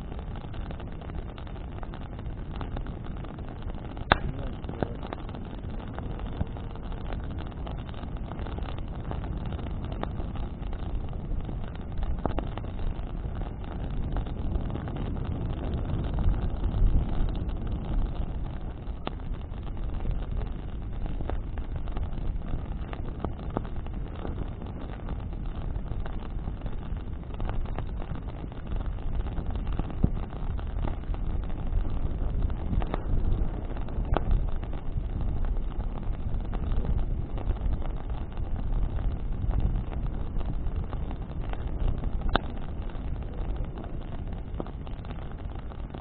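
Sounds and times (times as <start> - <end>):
burning wood crackling: 0.0 - 46.0
wind rumble on microphone: 0.0 - 46.0.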